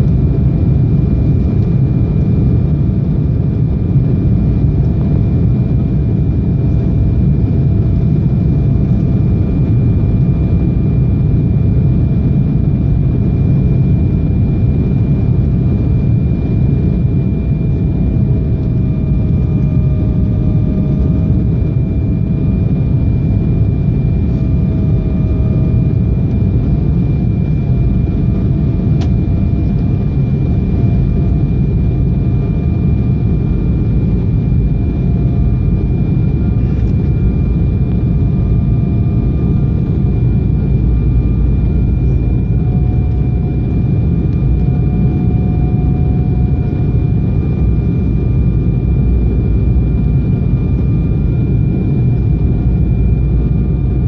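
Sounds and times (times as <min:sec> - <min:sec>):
jet engine roar and airflow: 0:00.0 - 0:54.0.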